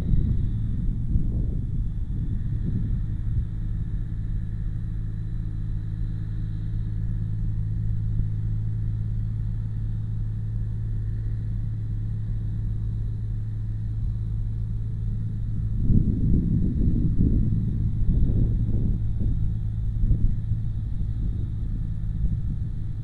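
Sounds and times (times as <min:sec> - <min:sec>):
locomotive engine idling: 0:00.0 - 0:23.0.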